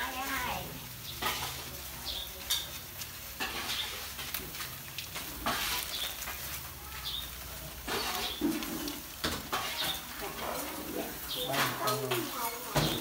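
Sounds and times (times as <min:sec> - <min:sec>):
crabs sizzling in a wok: 0:00.0 - 0:13.0.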